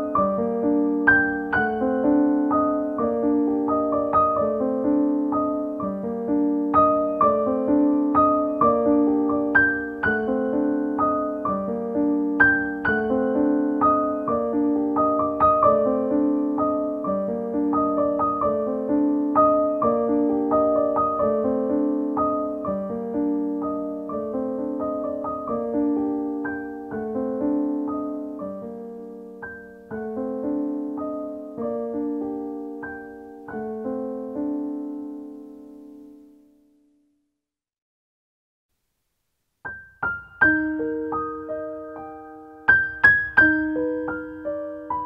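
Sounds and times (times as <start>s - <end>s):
solo piano music: 0.0s - 37.1s, 39.5s - 45.0s.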